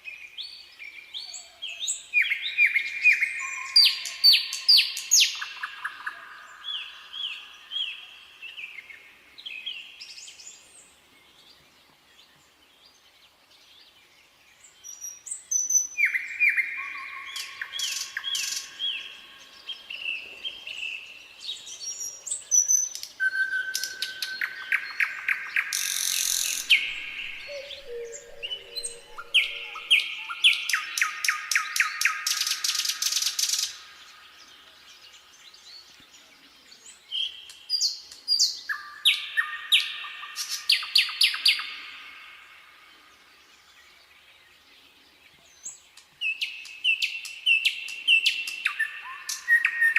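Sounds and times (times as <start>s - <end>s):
nightingale singing: 0.0s - 11.6s, 14.0s - 49.9s.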